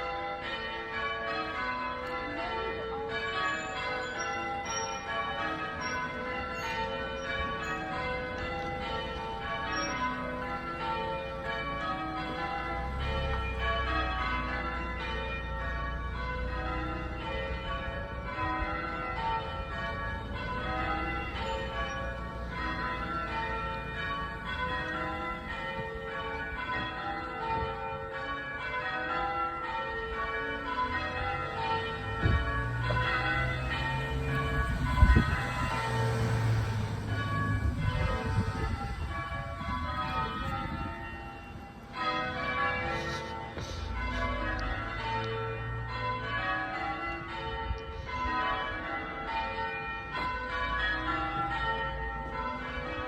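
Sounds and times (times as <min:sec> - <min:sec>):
church bells ringing: 0:00.0 - 0:53.0.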